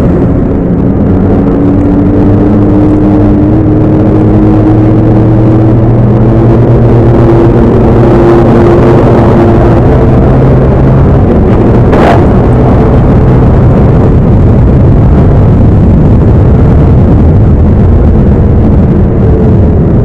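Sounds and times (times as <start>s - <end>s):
road noise rush: 0.0s - 20.0s
scooter engine droning: 0.0s - 20.0s.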